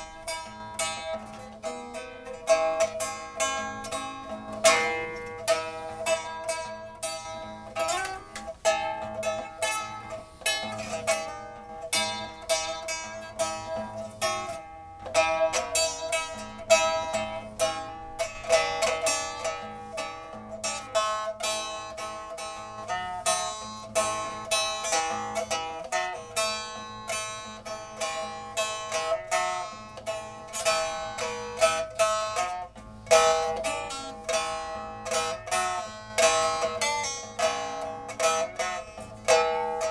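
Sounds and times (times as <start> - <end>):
plucked string melody: 0.0 - 39.9.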